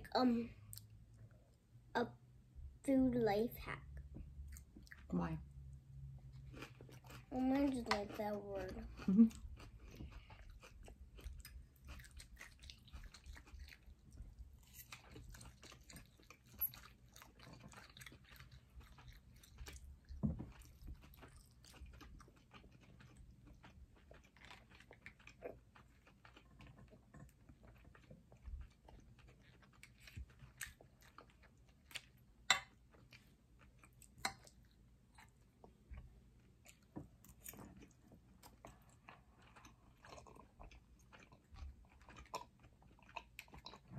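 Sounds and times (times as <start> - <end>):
people chewing food: 3.9 - 43.9.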